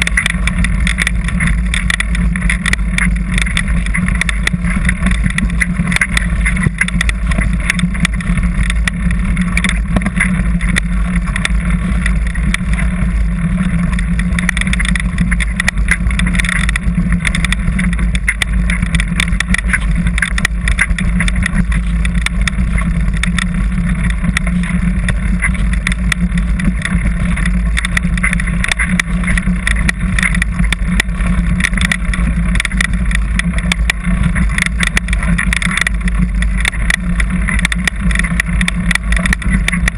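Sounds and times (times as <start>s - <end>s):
bike knocks and rattles: 0.0s - 39.9s
wind rumble on camera: 0.0s - 39.9s.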